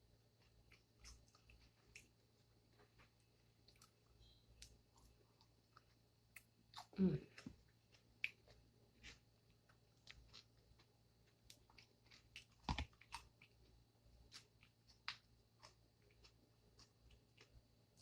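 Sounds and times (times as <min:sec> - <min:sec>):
chewing and mouth sounds: 0:00.4 - 0:18.0.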